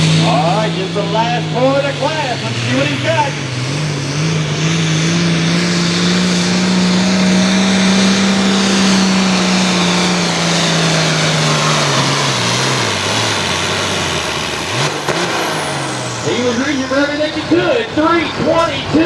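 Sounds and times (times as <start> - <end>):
tractor diesel engine at full power: 0.0 - 19.0.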